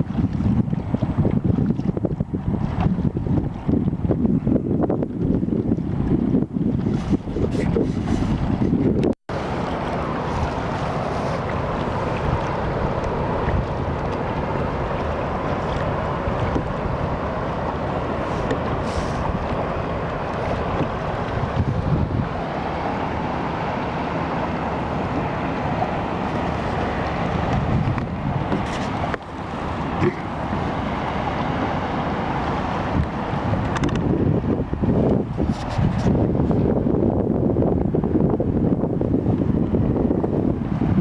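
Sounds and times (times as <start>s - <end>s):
water rushing past kayak: 0.0s - 41.0s
wind noise on microphone: 0.0s - 41.0s.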